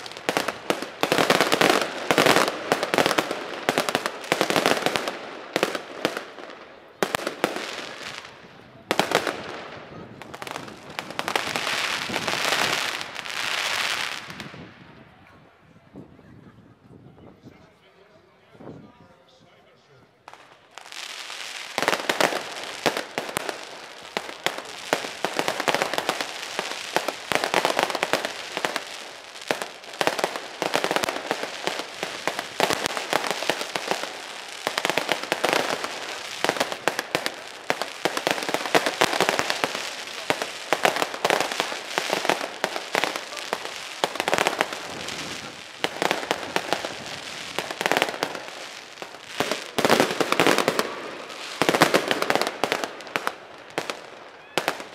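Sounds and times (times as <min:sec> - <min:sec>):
fireworks popping and banging: 0:00.0 - 0:14.7, 0:20.3 - 0:54.9.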